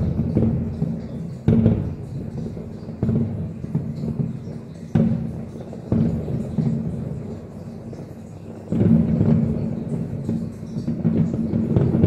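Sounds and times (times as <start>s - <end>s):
distant firework booms: 0.0s - 12.0s.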